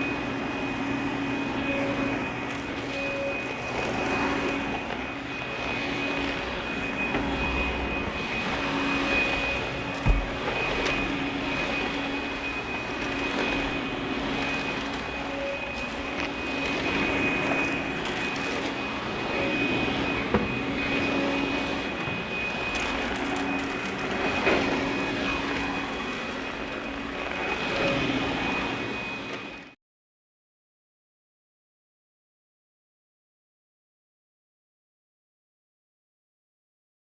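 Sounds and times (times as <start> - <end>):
upright vacuum cleaner running: 0.0 - 29.7.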